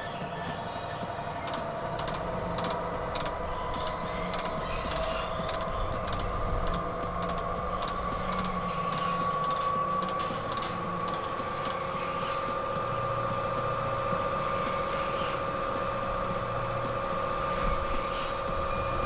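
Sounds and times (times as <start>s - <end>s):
electric motor whine and hum: 0.0s - 19.0s.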